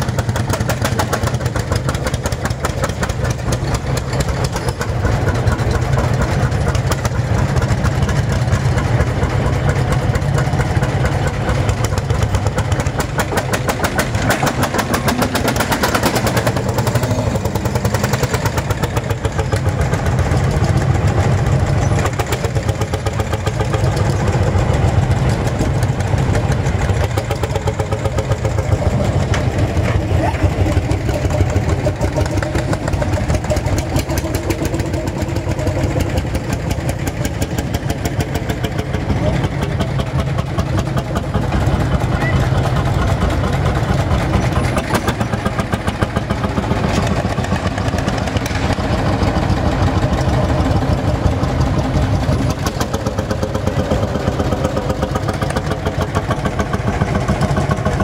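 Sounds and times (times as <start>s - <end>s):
tractor engine thudding: 0.0s - 58.0s.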